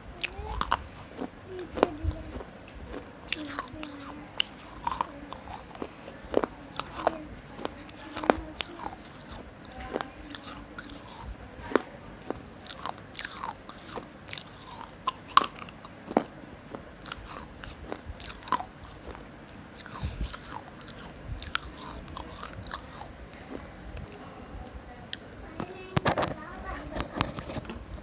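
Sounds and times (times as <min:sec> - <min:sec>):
crunchy biting and chewing: 0:00.1 - 0:24.1.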